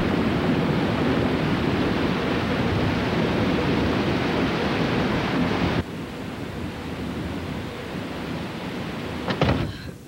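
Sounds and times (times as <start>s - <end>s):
heavy wind-driven rain: 0.0s - 10.0s.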